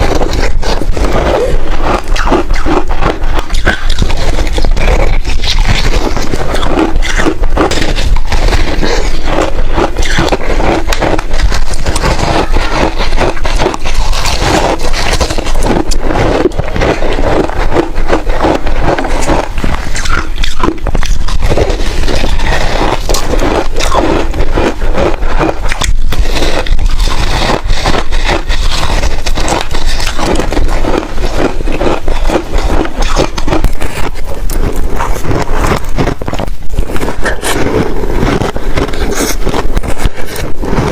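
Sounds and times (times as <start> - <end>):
crunching and chewing frost: 0.0 - 40.9.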